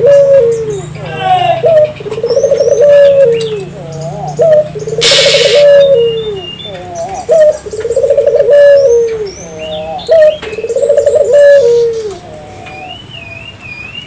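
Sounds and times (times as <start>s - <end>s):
dove cooing: 0.0s - 13.2s
small birds chirping: 0.0s - 14.0s.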